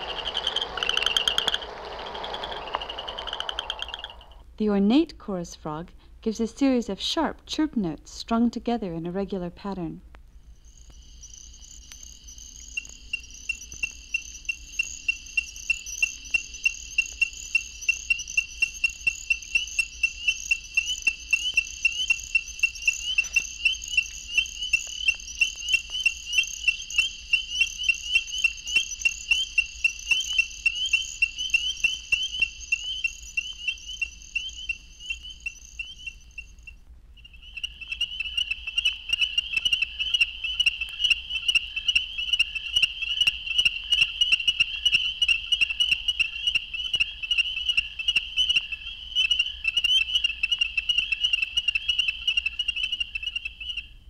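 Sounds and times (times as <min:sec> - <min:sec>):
frogs chirping: 0:00.0 - 0:04.4, 0:10.5 - 0:54.0.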